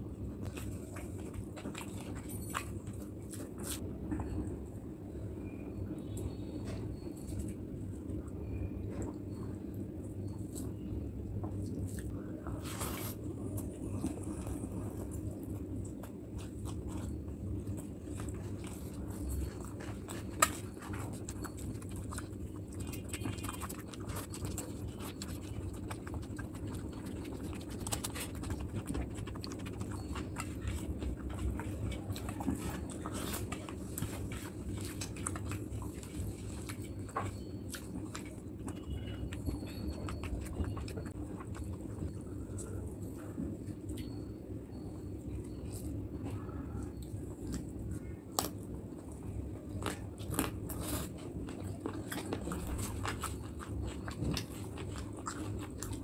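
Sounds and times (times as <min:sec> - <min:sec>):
steady low hum: 0:00.0 - 0:56.0
wet chewing and lip smacking: 0:00.3 - 0:04.5, 0:06.9 - 0:56.0.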